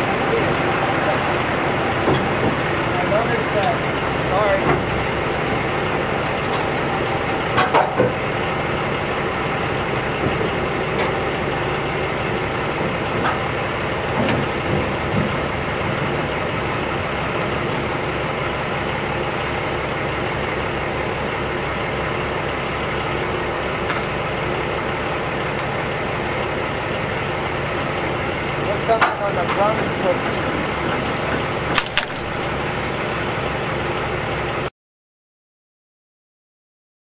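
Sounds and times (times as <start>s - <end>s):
diesel truck engine running: 0.0s - 34.7s.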